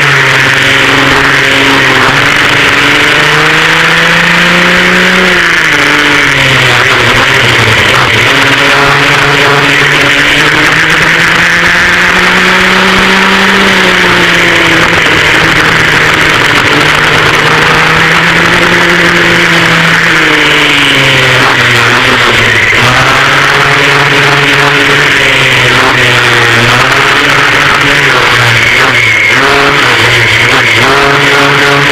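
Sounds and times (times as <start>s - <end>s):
go-kart engines running hard: 0.0s - 31.9s.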